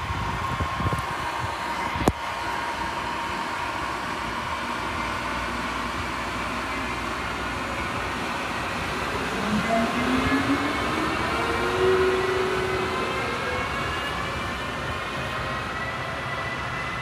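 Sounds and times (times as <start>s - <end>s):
electric locomotive humming past: 0.0s - 17.0s.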